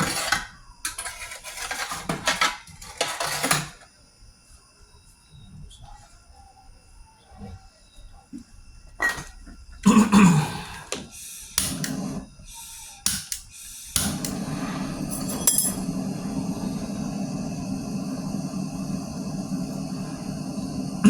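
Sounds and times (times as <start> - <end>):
mechanical hum with hiss: 0.0 - 21.0.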